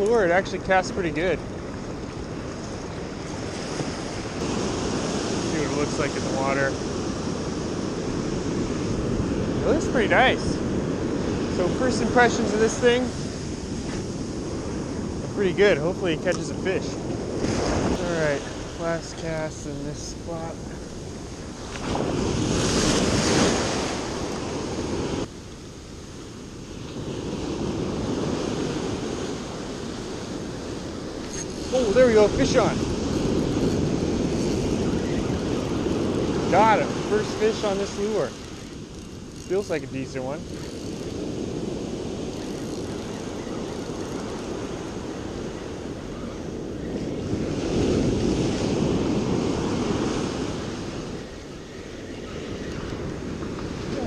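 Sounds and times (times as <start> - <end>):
ocean surf washing up beach: 0.0 - 54.0
wind buffeting microphone: 0.0 - 54.0.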